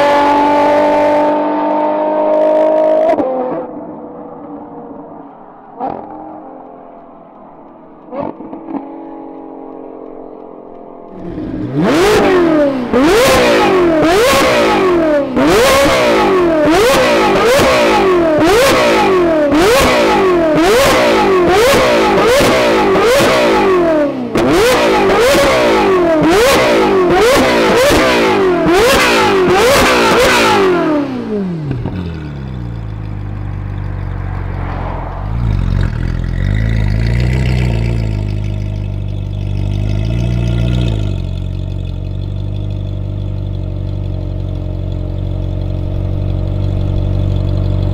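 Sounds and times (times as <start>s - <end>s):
sports car engine revving: 0.0s - 47.9s
car engine idling: 3.7s - 47.9s.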